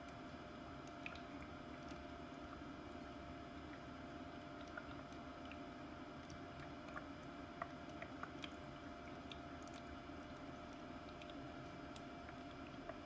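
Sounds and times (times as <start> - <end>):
diffuser humming: 0.0 - 13.0.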